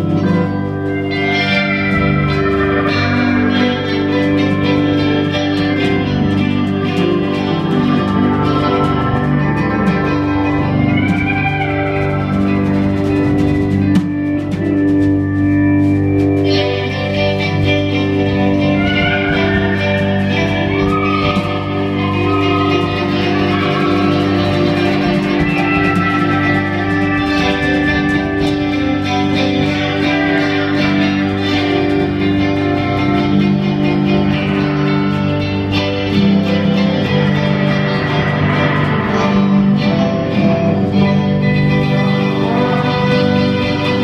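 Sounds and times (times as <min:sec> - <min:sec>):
drum kit: 0:00.0 - 0:44.0
electric bass: 0:00.0 - 0:44.0
electric guitar: 0:00.0 - 0:44.0
zither sustained melody notes: 0:00.0 - 0:44.0.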